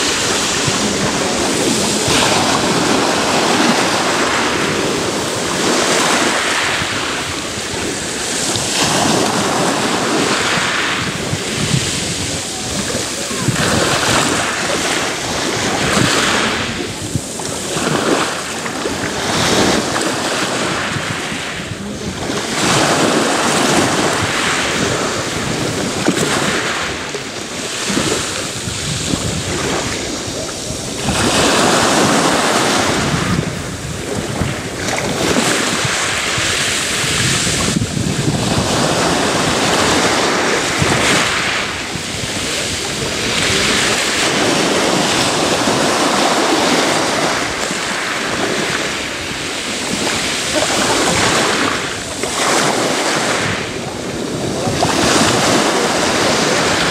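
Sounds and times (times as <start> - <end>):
sea waves breaking on shore: 0.0 - 56.9
wind buffeting microphone: 0.0 - 56.9.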